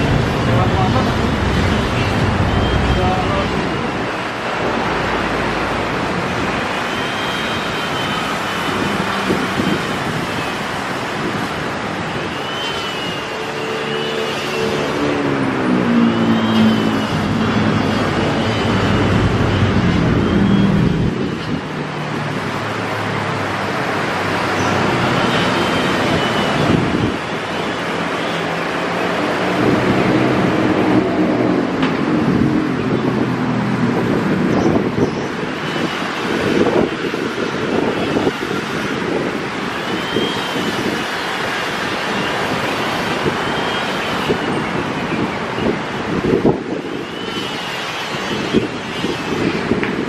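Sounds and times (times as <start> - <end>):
cars passing: 0.0 - 50.0
motorbikes passing: 0.0 - 50.0.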